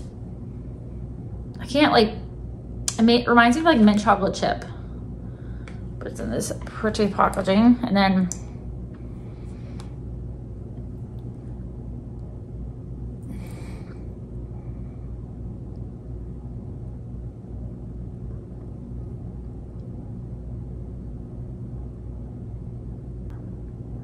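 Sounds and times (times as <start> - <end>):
faint hum: 0.0 - 24.0
low background rumble: 0.0 - 24.0.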